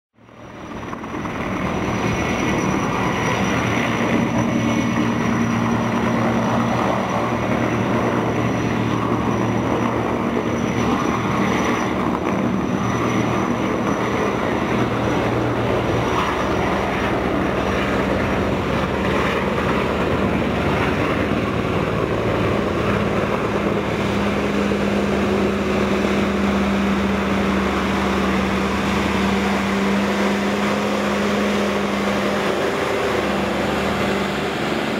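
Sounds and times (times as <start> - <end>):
engine drone: 0.2 - 34.9.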